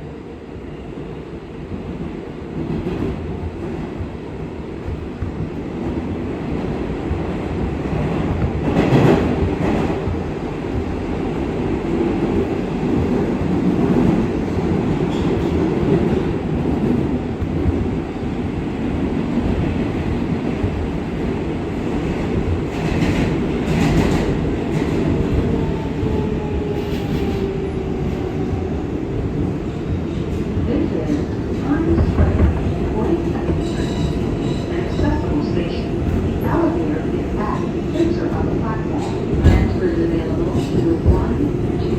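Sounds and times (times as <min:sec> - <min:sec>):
subway train rumbling: 0:00.0 - 0:41.9.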